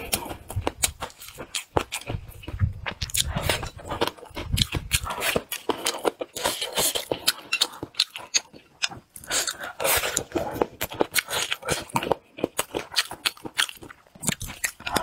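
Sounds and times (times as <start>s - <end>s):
man chewing and lip-smacking: 0.0s - 15.0s.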